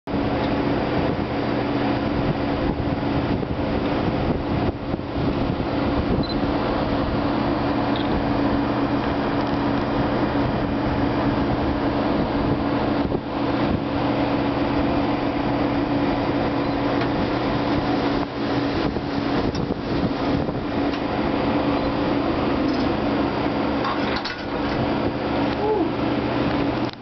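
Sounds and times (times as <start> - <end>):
diesel locomotive drone: 0.1 - 27.0
rushing wind: 0.1 - 27.0.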